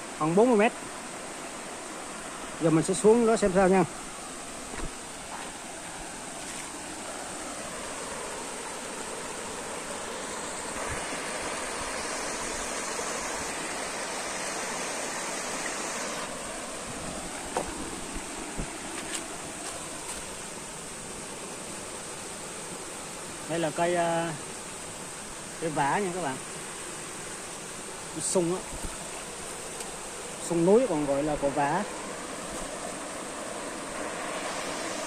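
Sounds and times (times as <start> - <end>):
water rushing over rocks: 0.0 - 24.4, 25.1 - 35.0.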